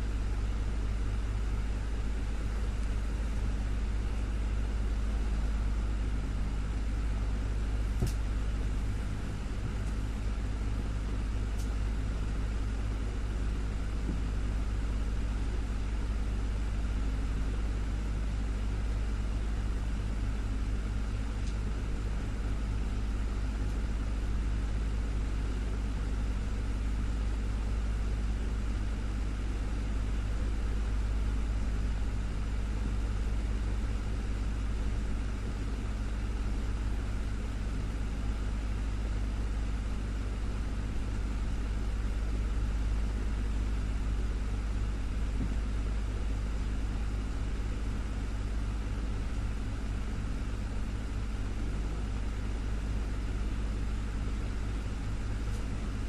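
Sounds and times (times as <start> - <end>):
desktop fan humming and whooshing: 0.0 - 56.0.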